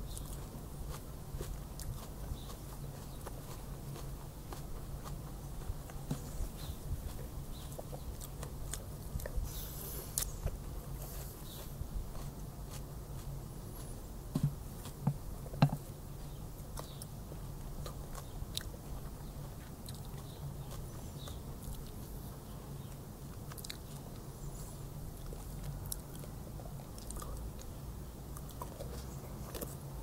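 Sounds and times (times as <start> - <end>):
person chewing with mouth smacking: 0.0 - 22.2, 22.8 - 30.0
steady low hum: 0.0 - 30.0.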